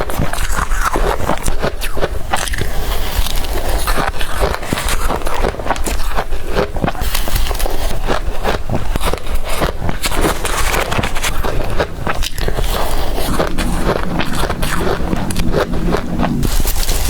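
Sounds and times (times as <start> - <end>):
crushed ice crunching: 0.4 - 17.0.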